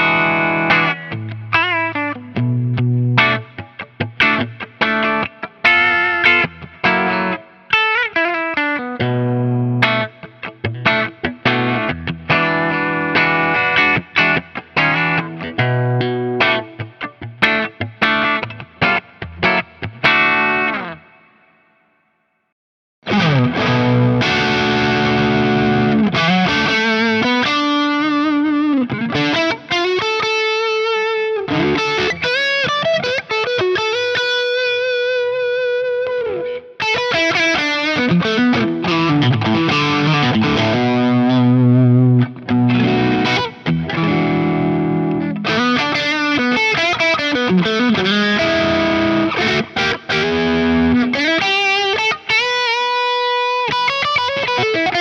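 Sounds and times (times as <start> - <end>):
distorted electric guitar lead: 0.0 - 21.6, 23.0 - 55.0.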